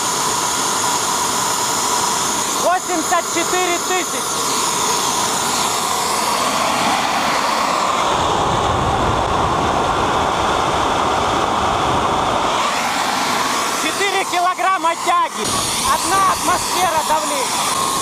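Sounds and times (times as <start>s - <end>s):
high engine whine: 0.0s - 18.0s
jet engine running: 0.0s - 18.0s.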